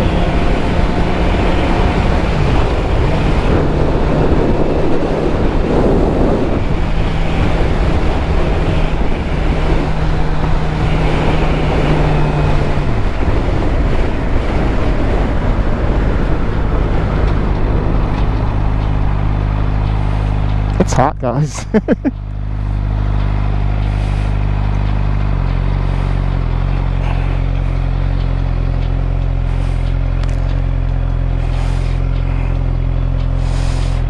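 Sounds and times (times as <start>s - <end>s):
motorcycle engine running: 0.0s - 34.0s
wind rush on microphone: 0.0s - 34.0s.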